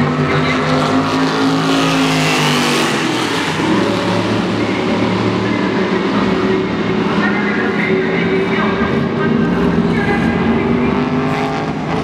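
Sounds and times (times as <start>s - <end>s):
race car passing at speed: 0.0s - 12.0s.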